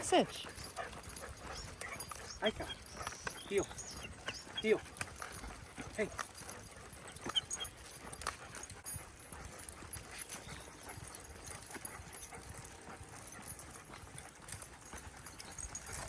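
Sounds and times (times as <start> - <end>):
dog paws clicking: 0.0 - 16.0
footsteps on a path: 0.0 - 16.0.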